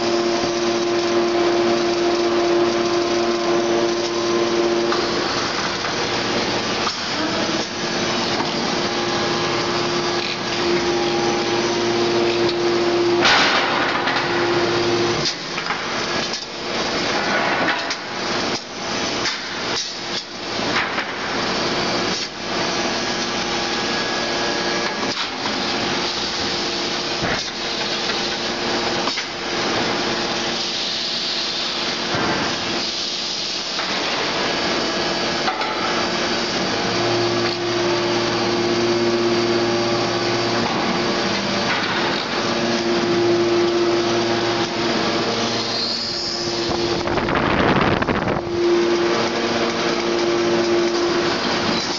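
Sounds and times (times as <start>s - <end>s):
hydraulic hum: 0.0s - 51.9s.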